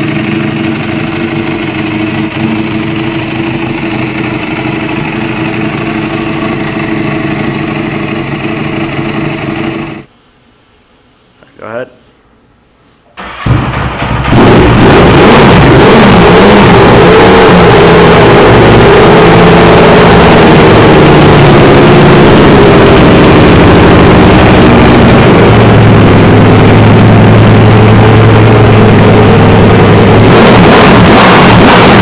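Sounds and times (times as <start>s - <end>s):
motorcycle engine running: 0.0s - 10.1s, 13.4s - 32.0s.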